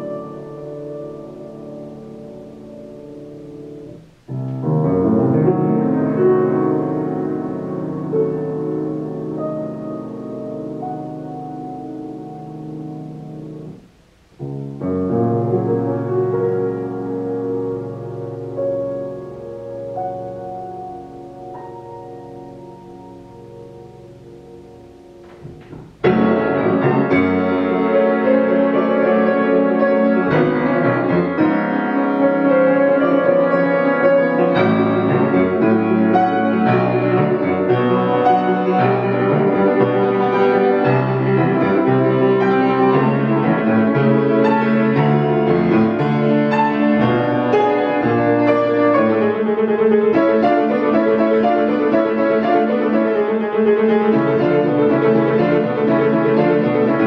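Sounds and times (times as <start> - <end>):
grand piano playing: 0.0 - 57.0.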